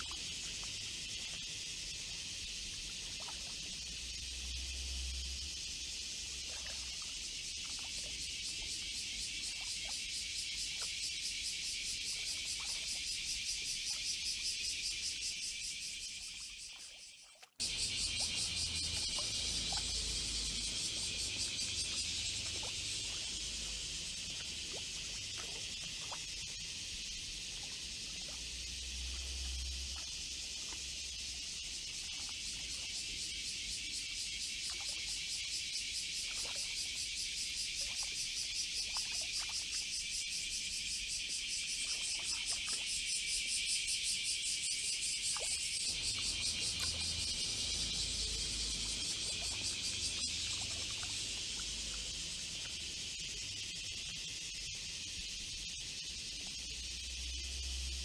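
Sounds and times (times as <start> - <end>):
cicada buzzing: 0.0 - 6.4, 7.1 - 16.6, 17.6 - 58.0.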